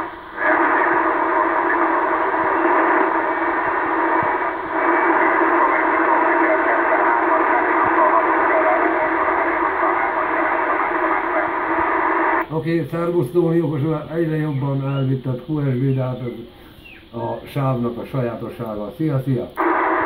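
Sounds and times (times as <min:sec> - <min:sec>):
radio band noise: 0:00.0 - 0:20.0
radio signal from loudspeaker: 0:00.0 - 0:20.0.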